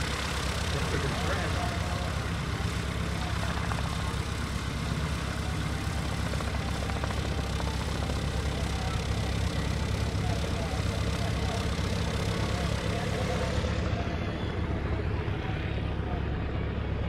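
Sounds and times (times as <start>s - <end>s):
propeller plane engine running: 0.0s - 17.0s.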